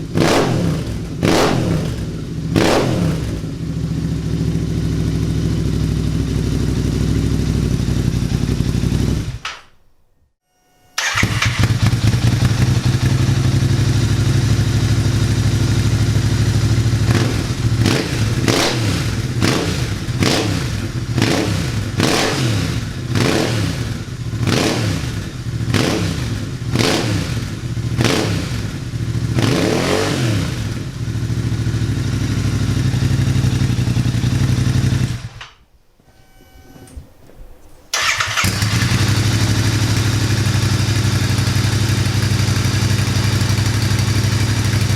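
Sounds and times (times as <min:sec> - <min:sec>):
motorcycle engine revving: 0:00.0 - 0:09.5, 0:11.0 - 0:35.4, 0:37.9 - 0:44.9.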